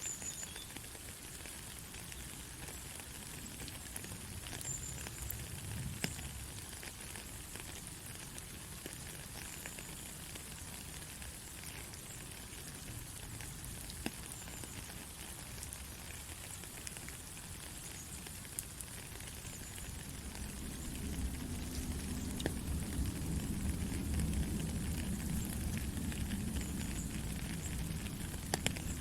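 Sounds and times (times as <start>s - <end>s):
light rain: 0.0s - 29.0s.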